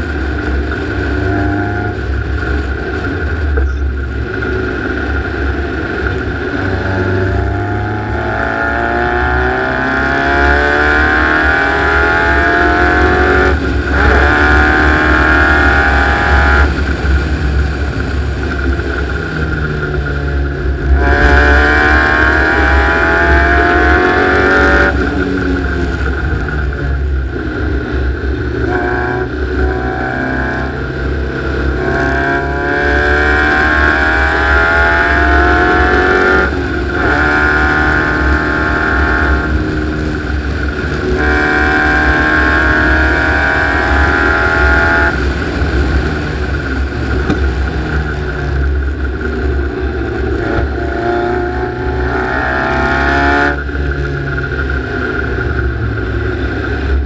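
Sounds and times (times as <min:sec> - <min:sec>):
buggy engine revving: 0:00.0 - 0:57.0
low wind rumble: 0:00.0 - 0:57.0.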